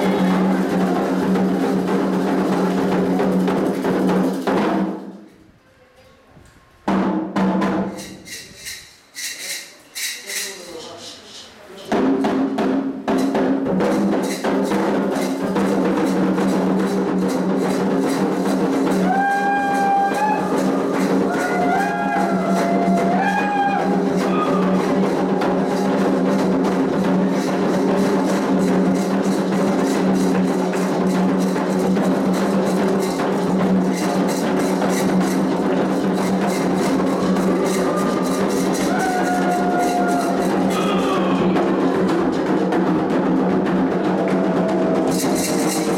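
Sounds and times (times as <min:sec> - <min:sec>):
drums and percussion beat: 0:00.0 - 0:05.3, 0:06.9 - 0:11.2, 0:11.8 - 0:45.9.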